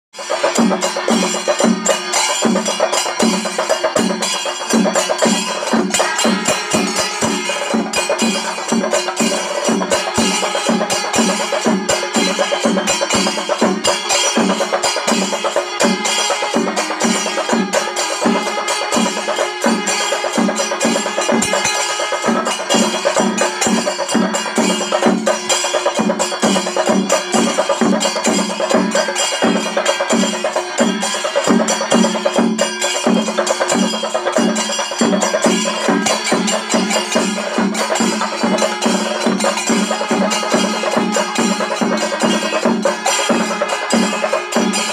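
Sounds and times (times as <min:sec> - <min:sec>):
continuous ringing backing: 0:00.2 - 0:44.9
drum beat: 0:00.2 - 0:44.9.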